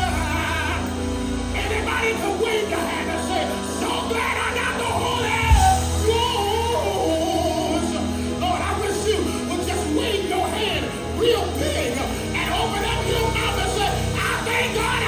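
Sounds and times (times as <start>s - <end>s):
live gospel band music: 0.0s - 15.0s
voices shouting and singing: 0.0s - 15.0s.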